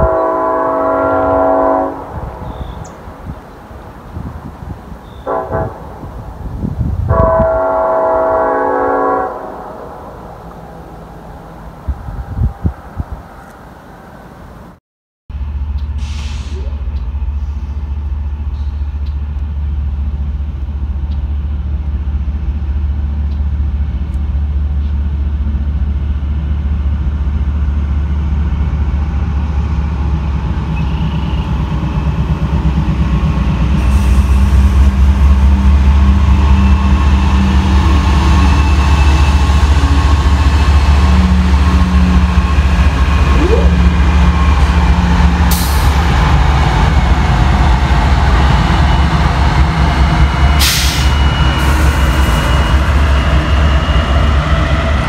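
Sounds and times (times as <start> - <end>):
locomotive engine rumble: 0.0 - 55.0.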